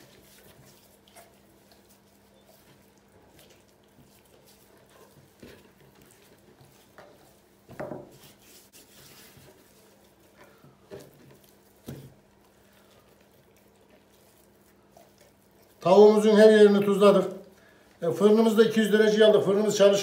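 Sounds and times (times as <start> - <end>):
faint steady hum: 0.0 - 19.8
hands handling raw chicken: 0.0 - 20.0.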